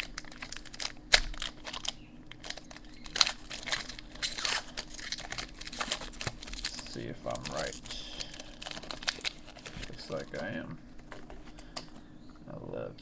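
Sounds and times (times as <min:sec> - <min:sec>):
card pack wrapper tearing: 0:00.0 - 0:11.9.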